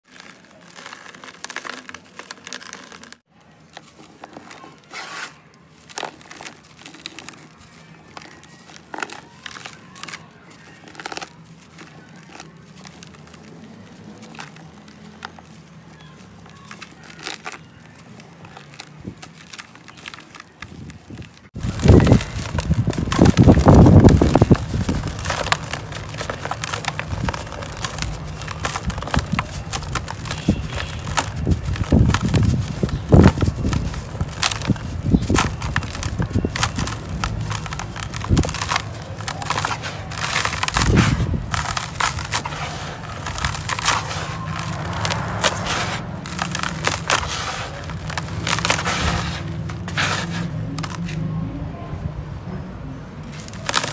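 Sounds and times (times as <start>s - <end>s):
dry cement crumbled by hand: 0.0s - 51.4s, 53.2s - 53.9s.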